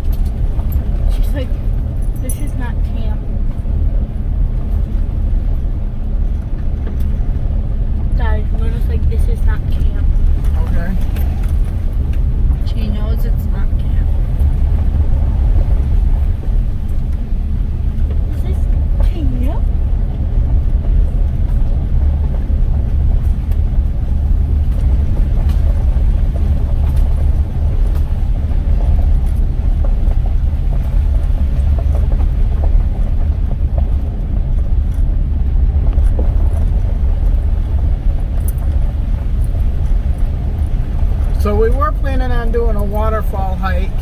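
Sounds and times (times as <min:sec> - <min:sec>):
car cabin road and engine rumble: 0:00.0 - 0:44.0.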